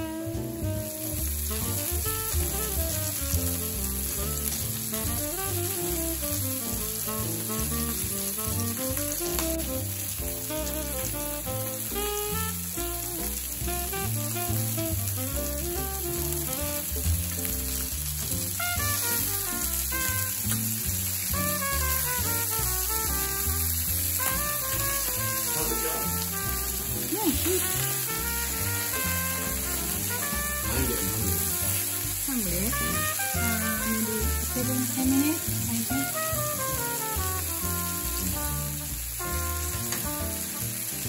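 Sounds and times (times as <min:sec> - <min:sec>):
background music: 0:00.0 - 0:41.0
chicken sizzling in oil: 0:00.0 - 0:41.0.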